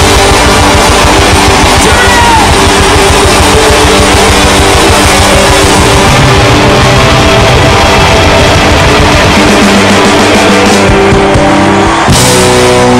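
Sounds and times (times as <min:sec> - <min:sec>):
loud rock music: 0:00.0 - 0:12.9.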